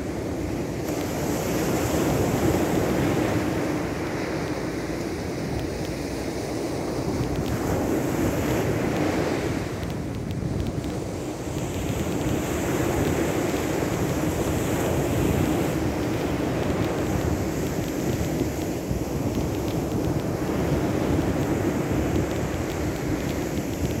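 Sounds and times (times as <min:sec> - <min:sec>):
sea surf washing: 0:00.0 - 0:24.0
wind rushing across microphone: 0:00.0 - 0:24.0.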